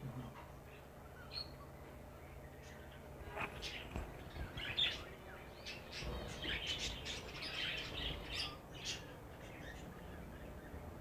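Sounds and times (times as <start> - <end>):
small birds chirping and chattering: 0.0 - 11.0.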